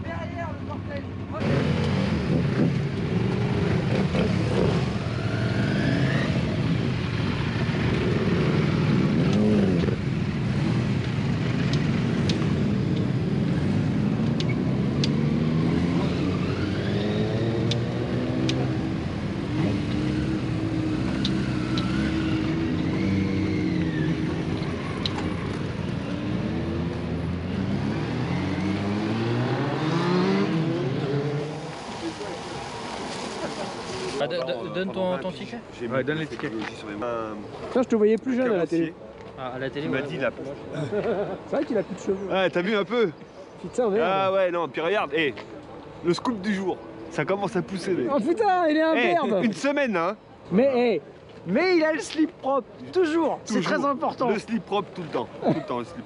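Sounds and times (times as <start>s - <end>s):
motorcycle engines revving: 0.6s - 56.0s.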